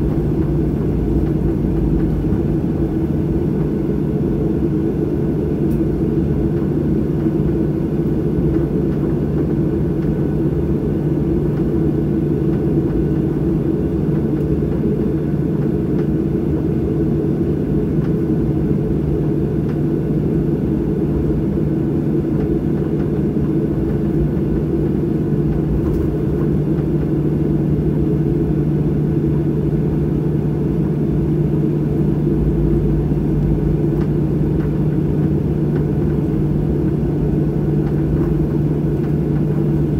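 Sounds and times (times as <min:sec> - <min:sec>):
jet engine drone inside cabin: 0:00.0 - 0:39.9.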